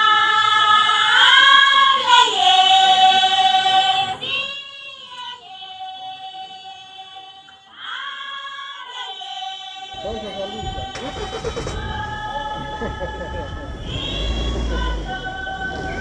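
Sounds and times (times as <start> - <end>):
voices singing long held notes: 0.0 - 16.0.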